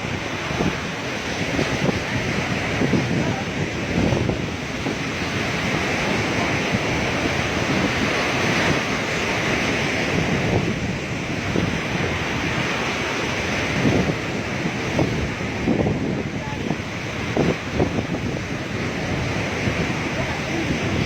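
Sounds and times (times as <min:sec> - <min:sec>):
sea waves washing ashore: 0:00.0 - 0:21.0
wind buffeting microphone: 0:00.0 - 0:21.0.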